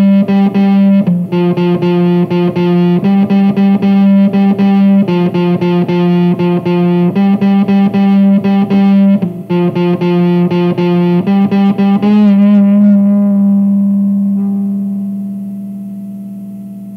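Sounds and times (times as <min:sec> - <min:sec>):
electric guitar picked riff: 0:00.0 - 0:16.9.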